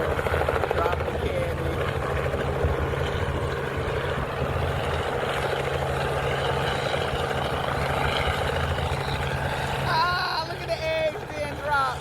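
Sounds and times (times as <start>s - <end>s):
helicopter running: 0.0s - 12.0s.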